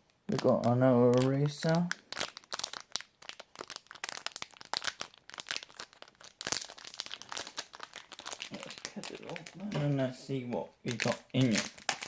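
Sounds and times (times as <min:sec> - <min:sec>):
plastic packaging crinkling: 0:00.3 - 0:12.0.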